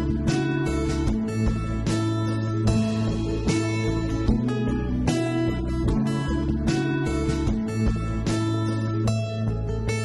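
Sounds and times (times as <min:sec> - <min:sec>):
guitar strummed: 0:00.0 - 0:10.0.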